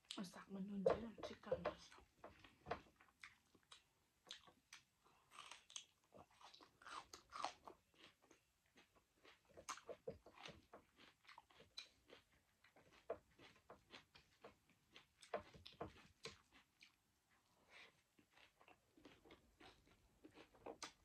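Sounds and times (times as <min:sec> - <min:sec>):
person chewing food: 0:01.2 - 0:21.0
mouth smacking and crunching: 0:01.8 - 0:21.0.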